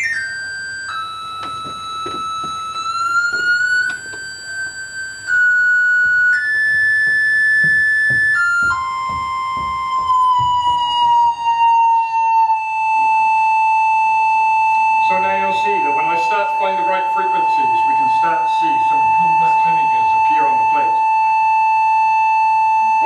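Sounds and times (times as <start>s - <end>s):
electronic test tone sweeping: 0.0s - 23.0s.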